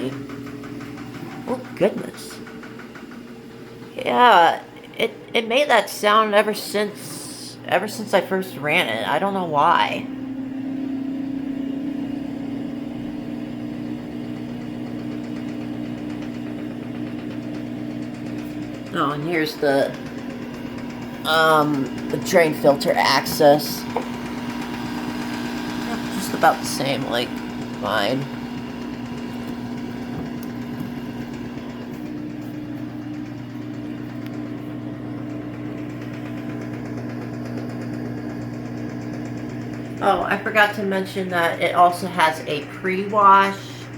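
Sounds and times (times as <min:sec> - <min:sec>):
washing machine humming: 0:00.0 - 0:43.9.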